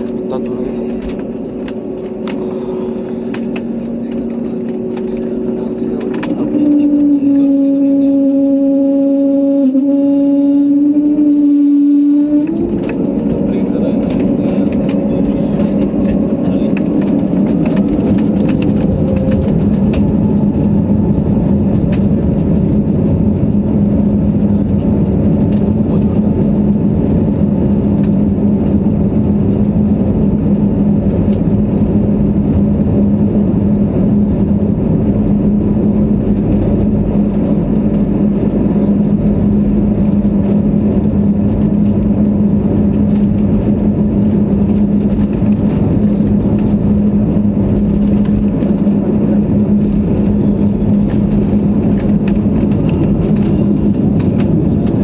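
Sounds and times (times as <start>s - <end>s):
airliner engines droning in cabin: 0.0s - 55.0s.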